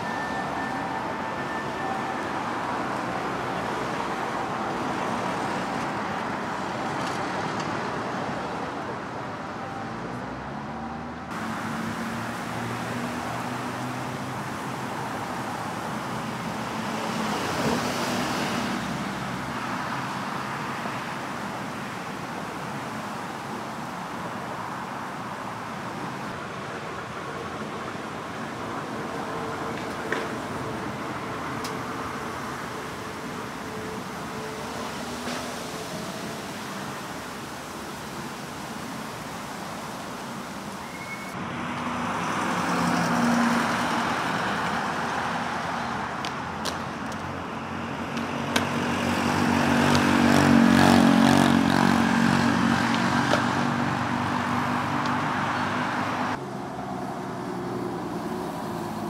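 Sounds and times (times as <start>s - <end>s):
road traffic noise: 0.0s - 59.0s.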